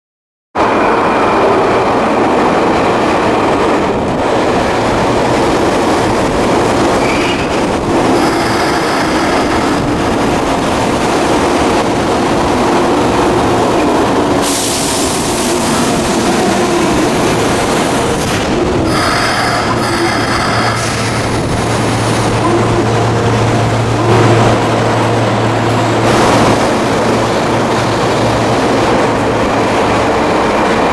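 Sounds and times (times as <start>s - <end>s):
train wheels rumbling on rails: 0.6s - 30.9s.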